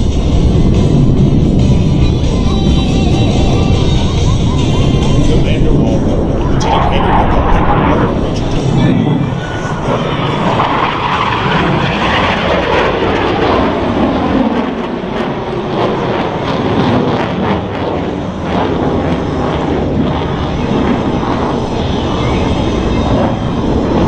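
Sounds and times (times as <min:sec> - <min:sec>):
jet roaring past: 0:00.0 - 0:24.0.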